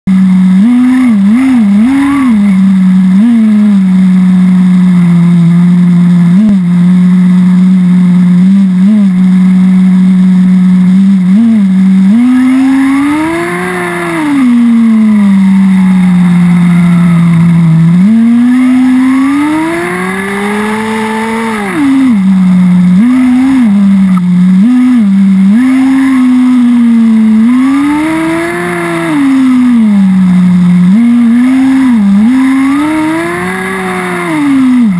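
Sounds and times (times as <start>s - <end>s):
nitro buggy engine revving: 0.0s - 34.9s.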